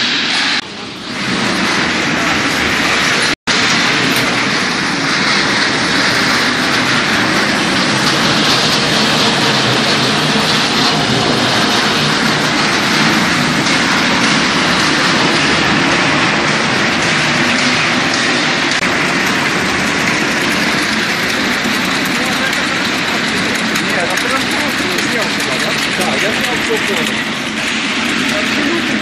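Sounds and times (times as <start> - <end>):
production line machinery running: 0.0 - 29.0.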